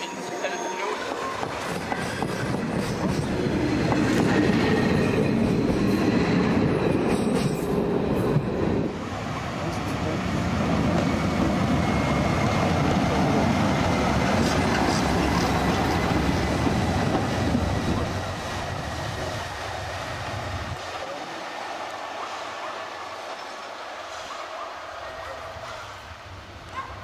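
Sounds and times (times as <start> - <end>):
locomotive wheels rumbling: 1.0 - 24.2.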